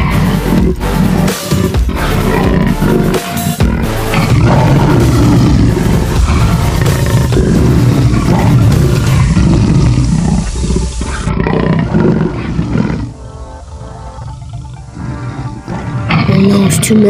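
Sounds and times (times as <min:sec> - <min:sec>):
lions and tigers roaring: 0:00.0 - 0:16.8.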